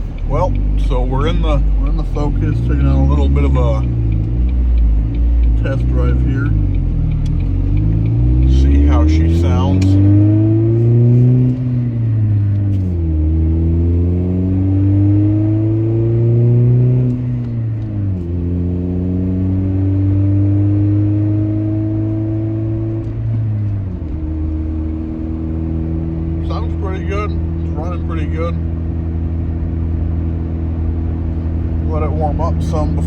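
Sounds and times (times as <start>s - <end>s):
car engine accelerating through gears: 0.0s - 33.0s.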